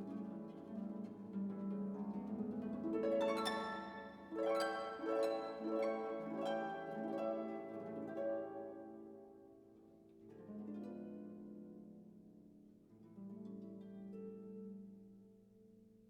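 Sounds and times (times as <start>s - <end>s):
plucked harp-like melody: 0.0s - 15.0s.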